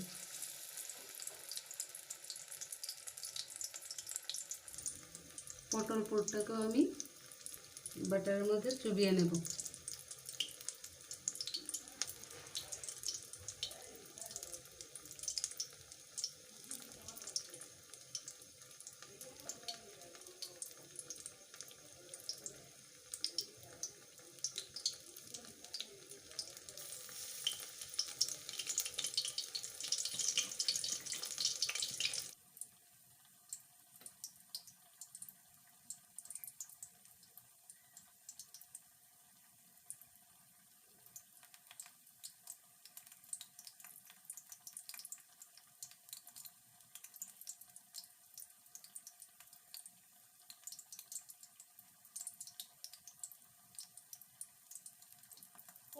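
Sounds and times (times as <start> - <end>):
food sizzling in hot oil: 0.0 - 55.9.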